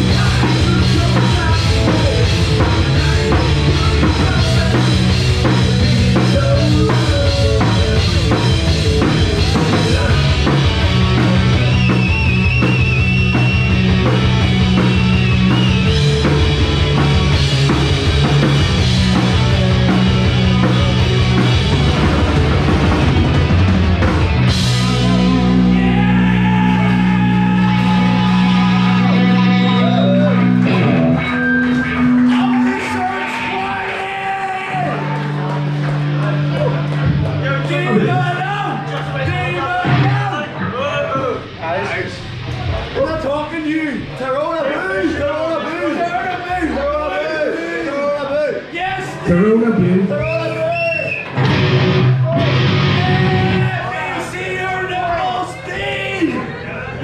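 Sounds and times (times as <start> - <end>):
drum kit: 0.0 - 44.1, 50.1 - 54.6
live rock band playing: 0.0 - 44.2, 49.1 - 57.0.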